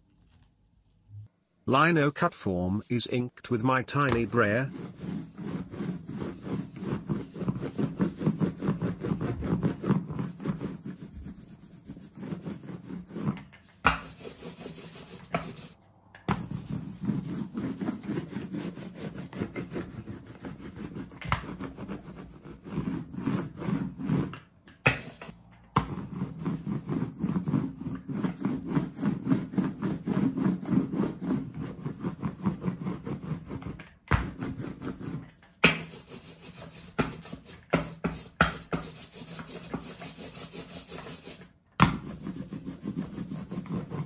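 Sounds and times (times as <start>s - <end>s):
brayer rolling over inked block: 4.1s - 44.0s.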